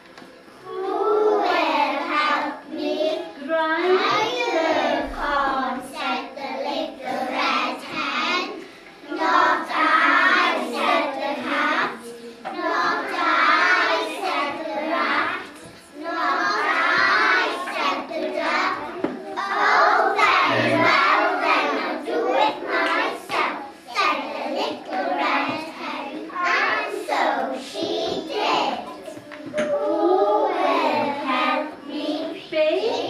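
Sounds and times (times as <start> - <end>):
children chanting in unison: 4.1 - 33.0.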